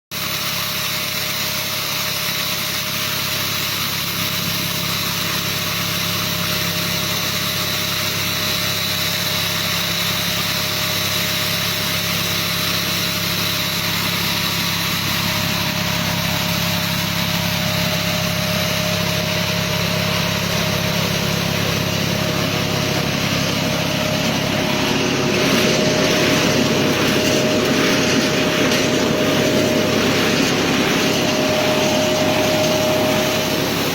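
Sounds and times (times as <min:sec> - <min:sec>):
harvesting machine engine and fan hum: 0:00.2 - 0:33.9.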